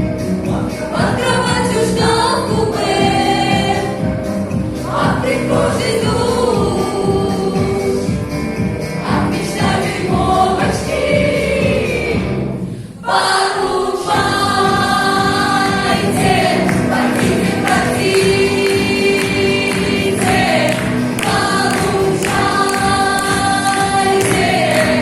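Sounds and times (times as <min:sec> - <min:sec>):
music with choir singing: 0:00.0 - 0:25.0.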